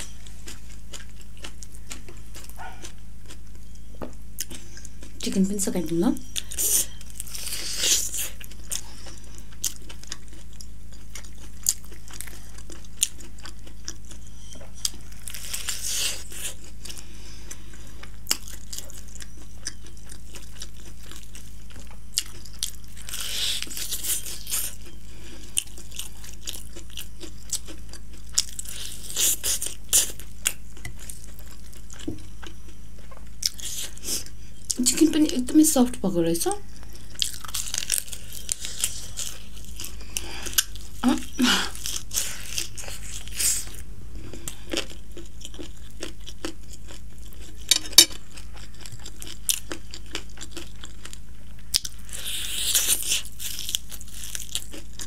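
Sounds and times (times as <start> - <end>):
chewing crispy fried chicken: 0.0 - 55.0.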